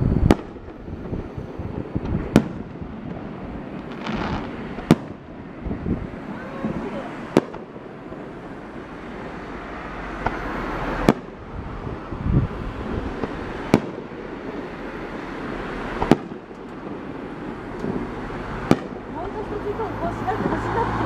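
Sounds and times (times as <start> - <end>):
fireworks exploding: 0.0 - 21.0.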